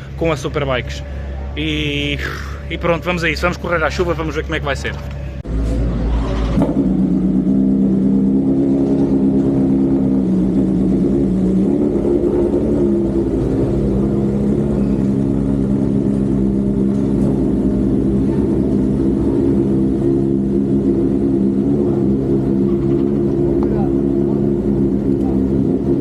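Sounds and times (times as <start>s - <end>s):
motorcycle engine running: 5.2s - 26.0s.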